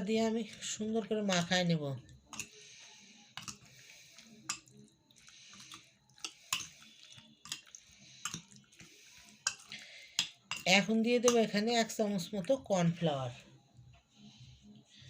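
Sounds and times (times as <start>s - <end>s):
wet squishes of hand mixing: 0.0s - 15.0s.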